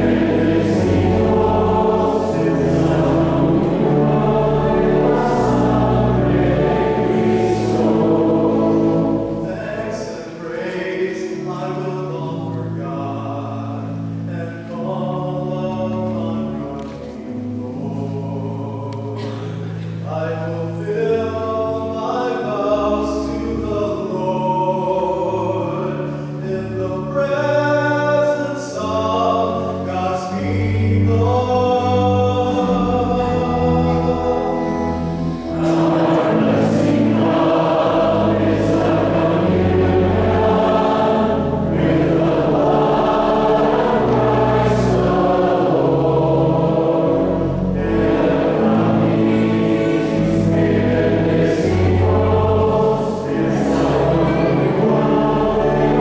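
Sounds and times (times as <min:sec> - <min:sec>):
sustained low accompaniment: 0:00.0 - 0:21.4, 0:30.4 - 0:56.0
choir singing: 0:00.0 - 0:56.0.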